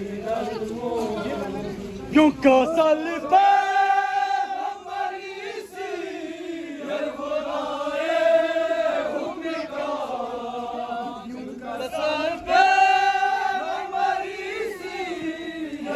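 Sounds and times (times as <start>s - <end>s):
men chanting in unison: 0.0s - 15.9s.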